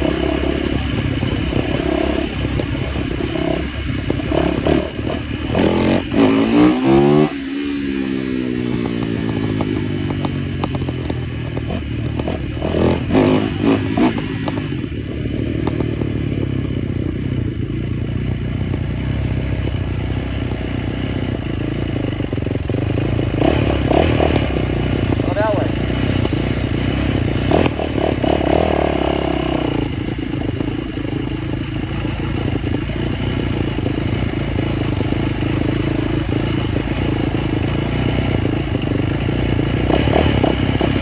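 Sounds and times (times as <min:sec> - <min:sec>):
small motorbike engine revving: 0:00.0 - 0:41.0.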